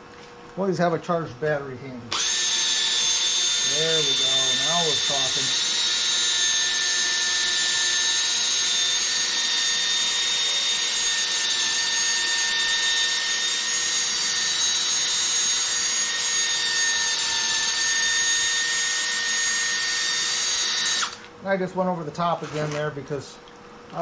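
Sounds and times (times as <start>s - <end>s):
cordless drill motor whine: 2.1s - 21.4s.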